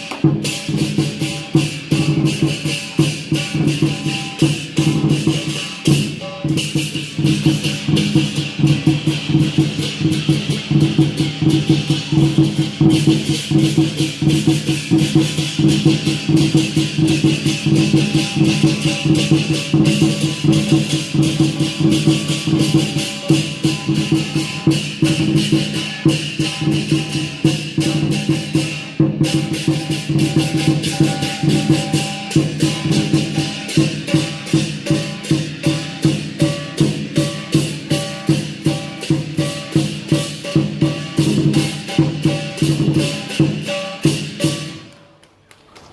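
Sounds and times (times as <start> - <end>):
clashing cymbals: 0.0 - 44.9
drum beat: 0.0 - 44.9
gong: 0.0 - 44.9.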